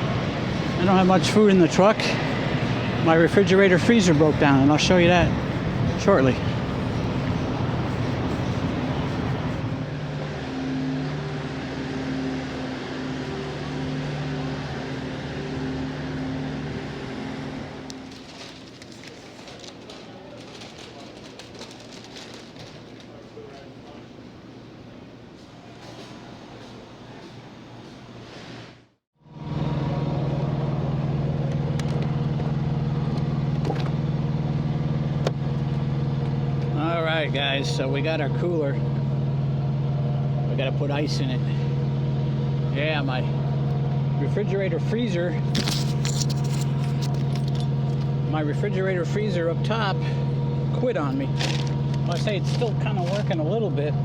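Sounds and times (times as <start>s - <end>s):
engine idling low hum: 0.0s - 19.2s, 29.2s - 54.0s.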